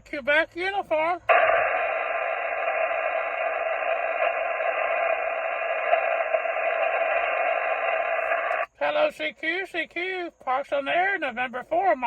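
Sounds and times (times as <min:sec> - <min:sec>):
radio static hiss: 0:01.2 - 0:12.0.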